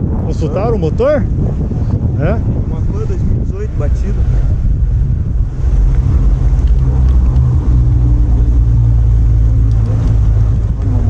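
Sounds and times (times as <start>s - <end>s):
loud low rumble: 1.2s - 11.0s.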